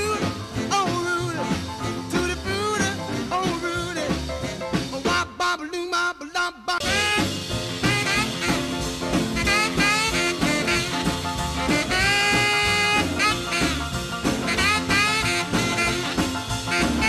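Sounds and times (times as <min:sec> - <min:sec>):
swing instrumental with horns: 0:00.0 - 0:17.0.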